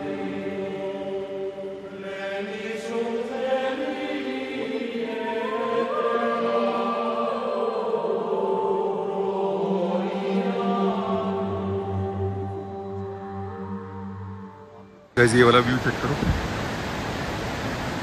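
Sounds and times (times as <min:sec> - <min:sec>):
voices singing long notes: 0:00.0 - 0:16.2
steady drone: 0:00.0 - 0:18.0.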